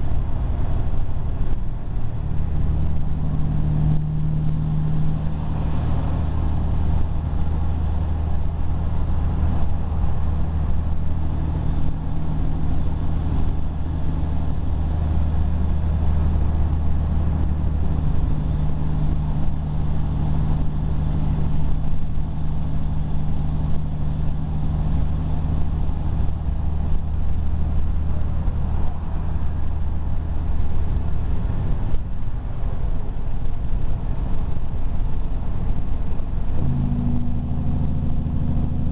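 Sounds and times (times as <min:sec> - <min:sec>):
tyre and road noise: 0:00.0 - 0:38.9
vehicle engine droning: 0:00.0 - 0:38.9.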